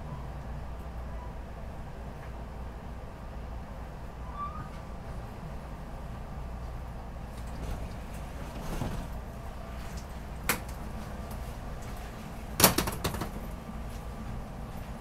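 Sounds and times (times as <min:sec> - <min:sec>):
train car low hum: 0:00.0 - 0:15.0.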